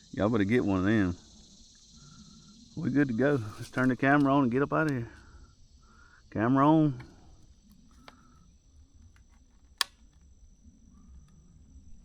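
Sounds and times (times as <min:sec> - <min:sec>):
high insect drone: 0:00.0 - 0:12.0
small ticks: 0:01.2 - 0:06.2, 0:06.9 - 0:11.6.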